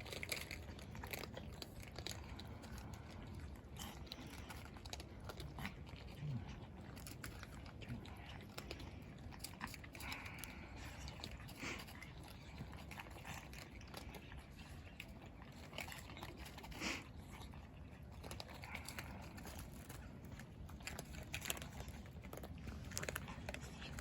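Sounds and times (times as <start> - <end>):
cats crunching food: 0.0 - 24.0.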